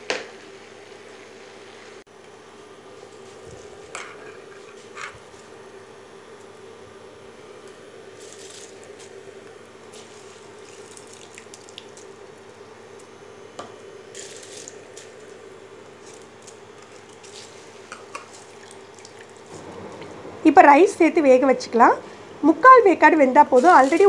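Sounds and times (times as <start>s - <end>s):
pot of water boiling: 0.0s - 2.1s, 2.8s - 13.1s, 13.8s - 24.0s
steady hum: 0.0s - 24.0s.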